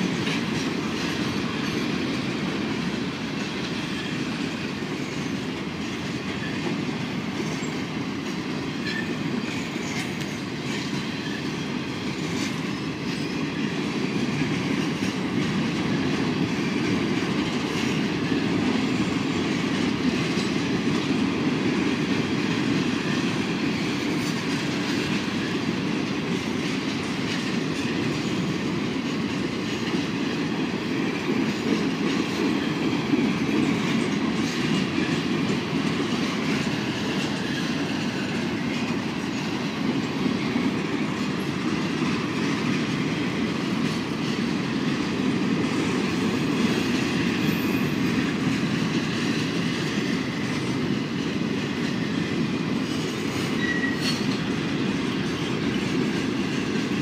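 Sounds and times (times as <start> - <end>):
freight train rumbling on rails: 0.0 - 57.0.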